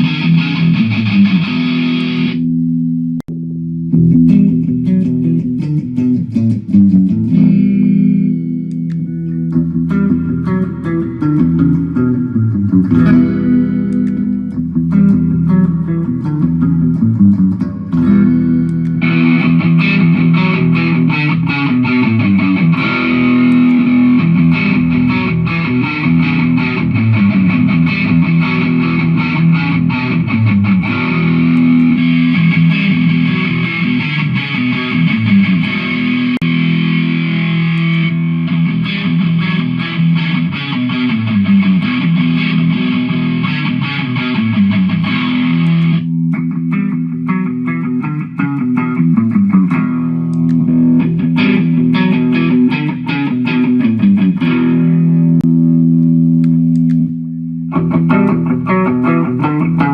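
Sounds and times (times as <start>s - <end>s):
electric guitar riff: 0.0s - 59.9s.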